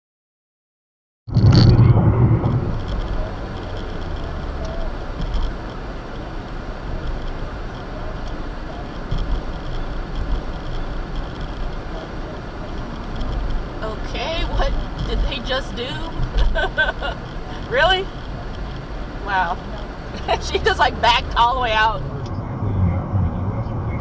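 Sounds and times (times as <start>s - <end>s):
road and engine noise inside car: 2.3s - 24.0s.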